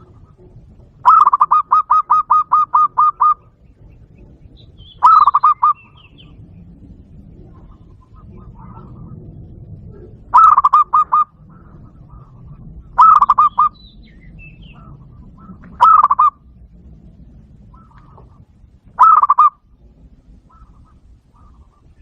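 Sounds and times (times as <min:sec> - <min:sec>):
dove cooing calls from speaker: 0:00.0 - 0:22.0.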